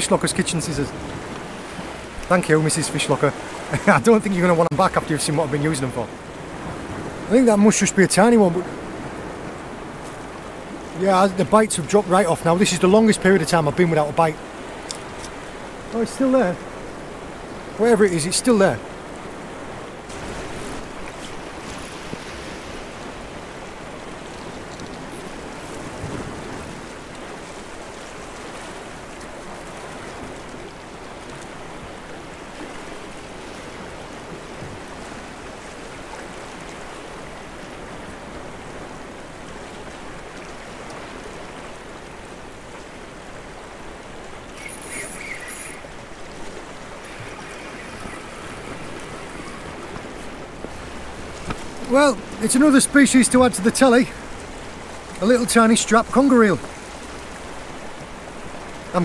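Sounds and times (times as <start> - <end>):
waves washing over rocks: 0.0 - 59.0.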